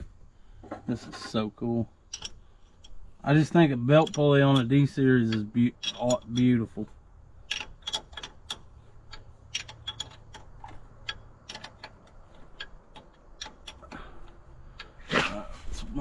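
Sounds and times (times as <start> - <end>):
wrench clicking on bolts: 2.0 - 15.1.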